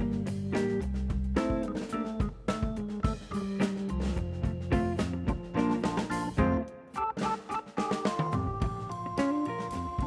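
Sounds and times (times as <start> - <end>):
drum kit hits: 0.0 - 10.0
held keyboard notes: 0.0 - 10.0.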